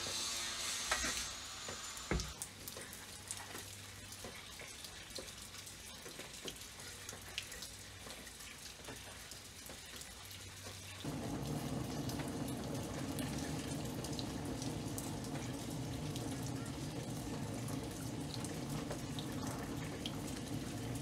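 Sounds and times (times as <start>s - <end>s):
faint running water: 1.7s - 21.0s.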